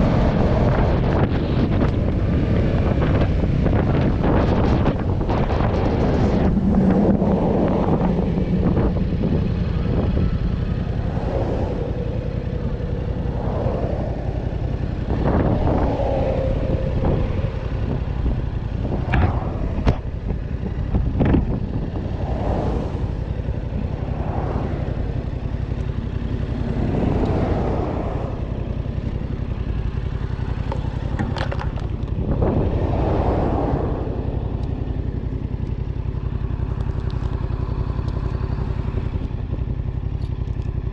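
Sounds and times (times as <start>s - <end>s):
vehicle engine and road noise: 0.0s - 40.9s
wind buffeting microphone: 0.0s - 40.9s.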